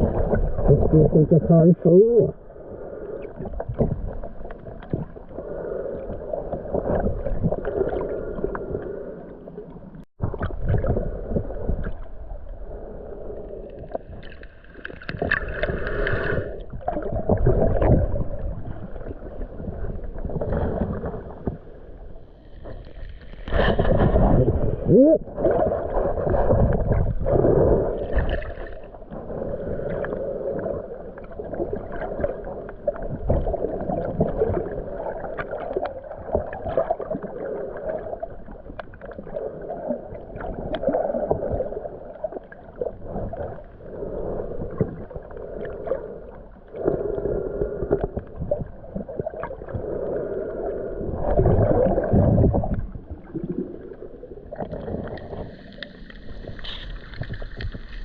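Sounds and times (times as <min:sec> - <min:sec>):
muffled underwater sloshing: 0:00.0 - 0:58.0.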